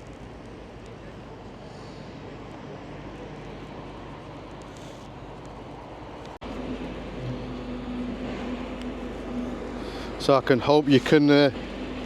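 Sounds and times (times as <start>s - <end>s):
steady engine hum: 0.0s - 12.0s
traffic rumble: 0.0s - 12.0s.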